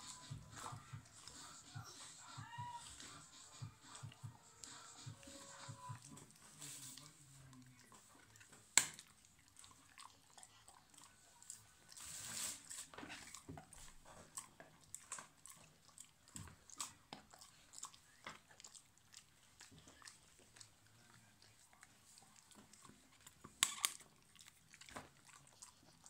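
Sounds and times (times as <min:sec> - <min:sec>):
dog gnawing hard chew: 0:00.2 - 0:26.0.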